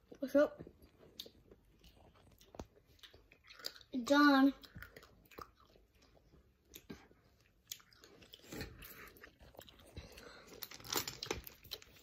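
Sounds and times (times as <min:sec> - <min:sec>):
faint chewing and crunching: 0:00.0 - 0:12.0.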